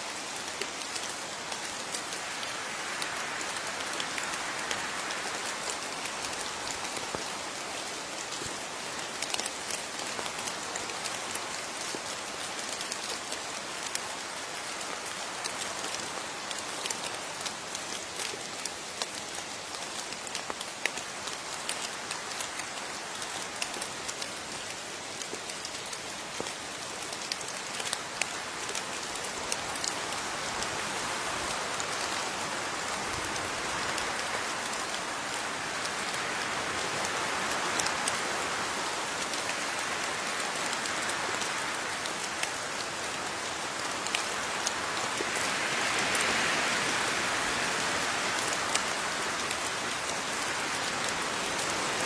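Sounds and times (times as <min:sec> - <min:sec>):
raindrops ticking on a surface: 0:00.0 - 0:52.0
steady rain hiss: 0:00.0 - 0:52.0.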